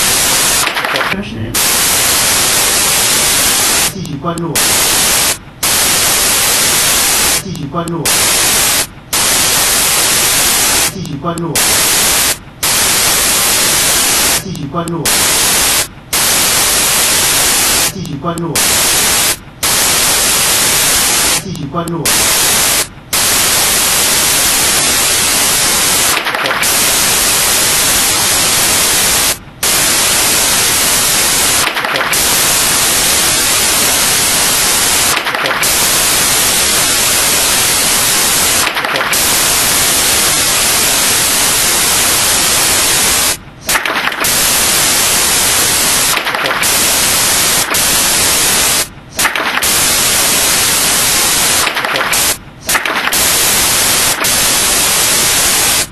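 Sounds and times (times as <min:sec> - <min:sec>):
static hiss: 0:00.0 - 0:55.9.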